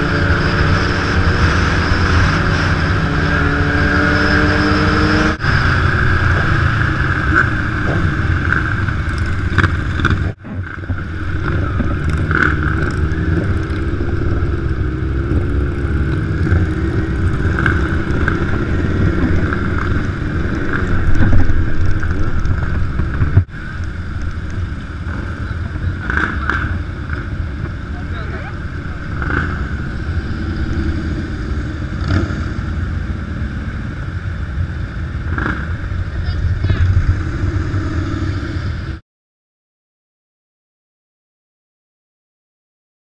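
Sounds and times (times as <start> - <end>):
motorcycle engines riding: 0.0 - 39.0
wind noise: 0.0 - 39.0.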